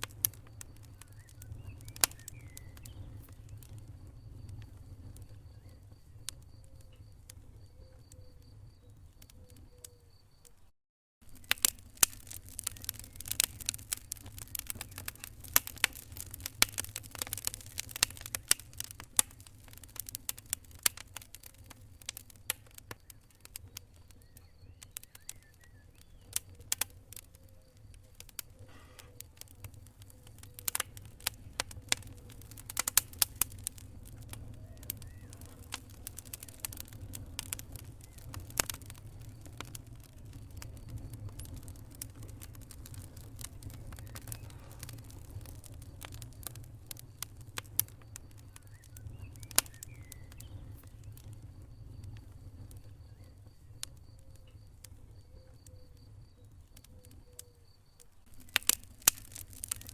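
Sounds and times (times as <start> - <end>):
low rumble of flames: 0.0 - 10.5, 11.2 - 59.9
fire crackling and popping: 0.0 - 59.9.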